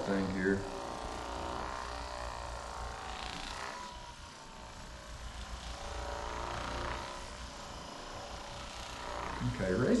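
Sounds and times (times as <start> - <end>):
massager motor buzz: 0.0 - 10.0.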